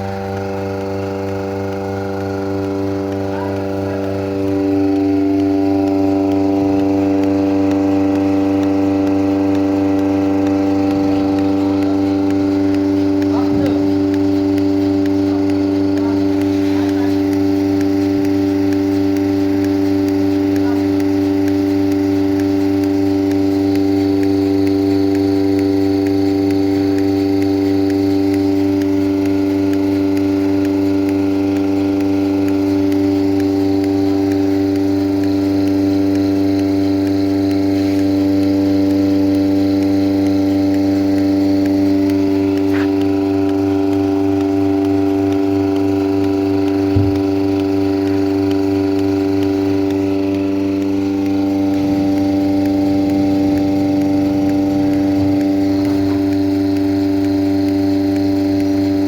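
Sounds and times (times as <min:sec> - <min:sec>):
milking machine humming: 0:00.0 - 0:59.0.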